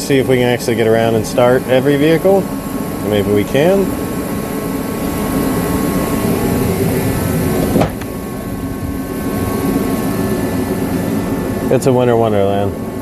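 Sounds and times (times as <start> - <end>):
mechanical motor drone: 0.0 - 13.0.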